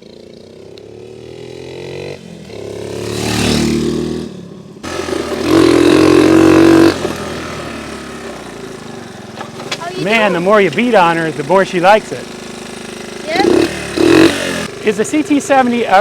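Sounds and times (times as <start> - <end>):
minibike engine revving: 0.0 - 16.0.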